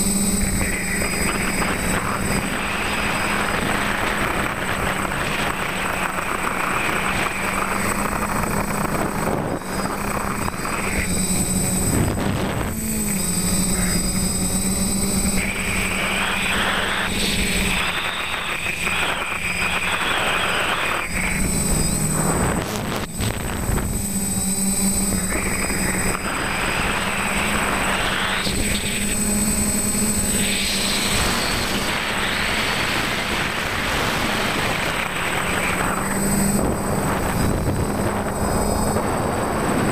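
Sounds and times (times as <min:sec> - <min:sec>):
drone propellers buzzing: 0:00.0 - 0:39.9
rushing air noise: 0:00.0 - 0:39.9.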